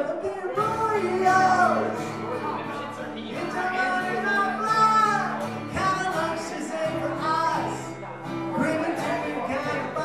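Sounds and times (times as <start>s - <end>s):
acoustic guitar strumming: 0.0s - 10.0s
man singing: 0.0s - 10.0s.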